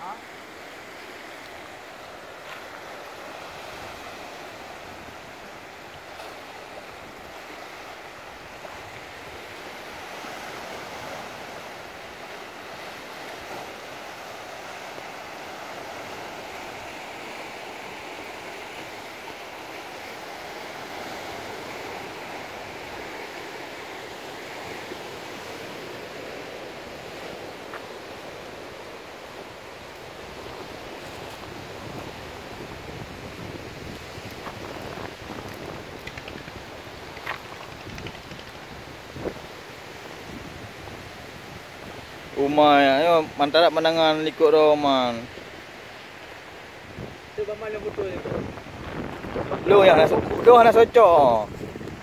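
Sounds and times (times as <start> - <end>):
waves breaking on rocky shore: 0.0 - 52.0.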